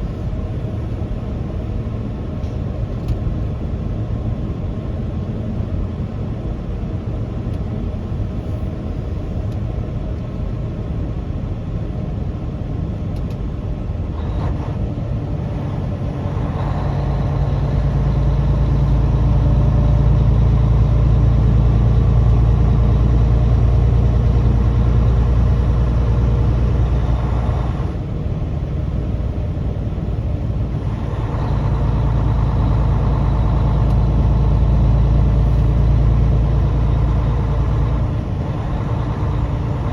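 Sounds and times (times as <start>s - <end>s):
road noise: 0.0s - 39.9s
truck engine: 0.0s - 39.9s.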